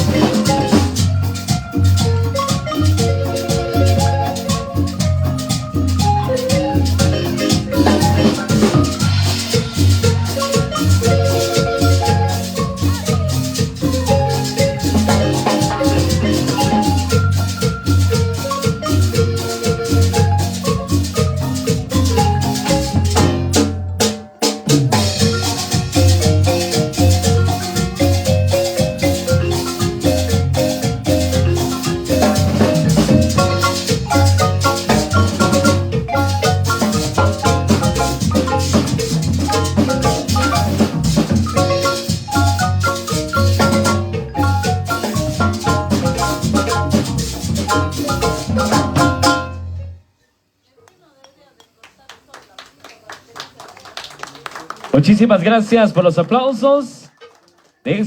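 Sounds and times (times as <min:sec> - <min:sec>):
pulsing bass: 0:00.0 - 0:23.9, 0:25.1 - 0:49.9
marimba band playing: 0:00.0 - 0:50.0, 0:54.9 - 0:57.0
rattle percussion: 0:00.0 - 0:50.0.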